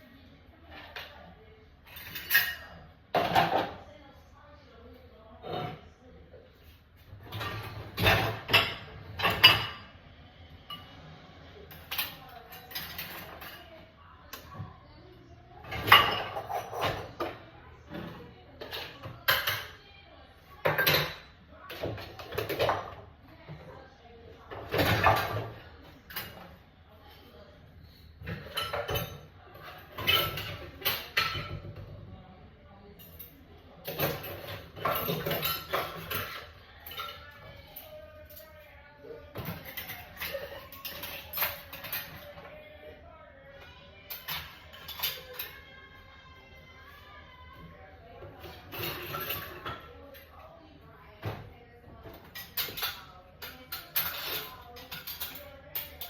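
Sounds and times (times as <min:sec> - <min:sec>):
dishes and cutlery clattering: 0:00.6 - 0:03.9, 0:05.4 - 0:10.0, 0:10.6 - 0:14.8, 0:15.5 - 0:32.2, 0:32.8 - 0:42.6, 0:43.6 - 0:46.9, 0:47.5 - 0:56.0.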